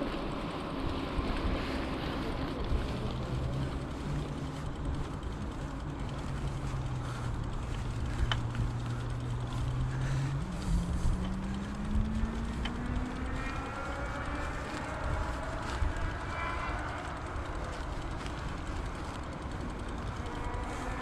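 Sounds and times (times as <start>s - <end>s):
bicycle rolling: 0.0s - 21.0s
low hum rising in pitch: 0.7s - 21.0s.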